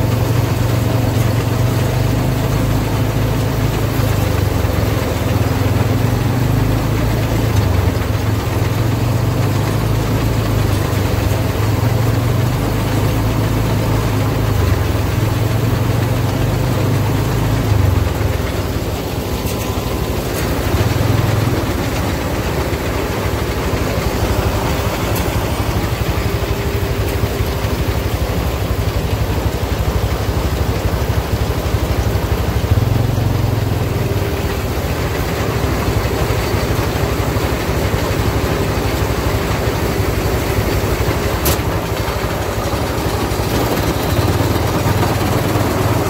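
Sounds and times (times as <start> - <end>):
engine humming: 0.0 - 46.0.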